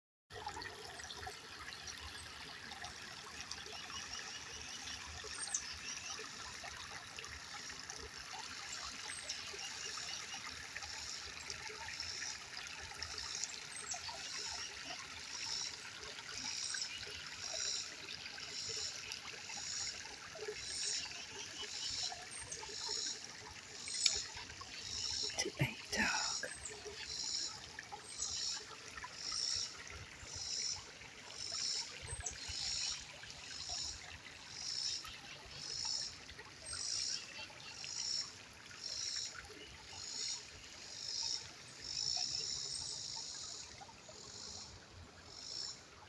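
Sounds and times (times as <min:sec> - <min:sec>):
water trickling: 0:00.3 - 0:46.0.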